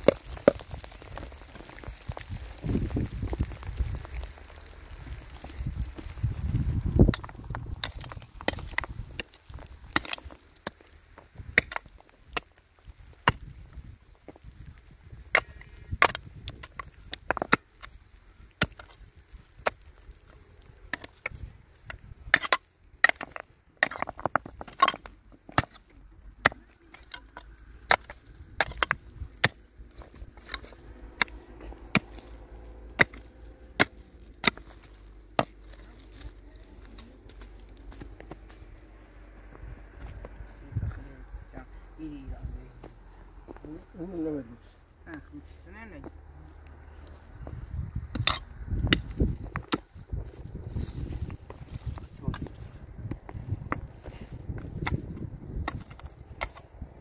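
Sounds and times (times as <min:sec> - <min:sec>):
hand hoe chopping stony soil: 0:00.0 - 0:38.8, 0:47.8 - 0:57.0.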